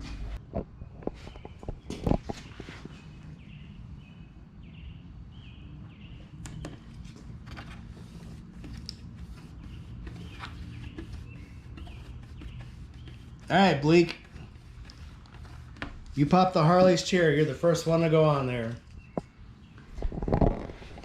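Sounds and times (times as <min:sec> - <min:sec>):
bird chirping: 0:01.2 - 0:07.1, 0:08.0 - 0:20.0.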